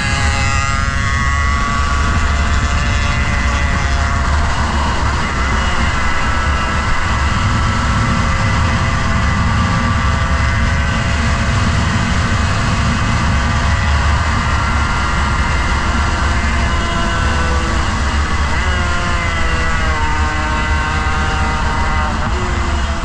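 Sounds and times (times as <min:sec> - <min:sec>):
motorcycle engine running: 0:00.0 - 0:23.0
wind rumble on microphone: 0:00.0 - 0:23.0.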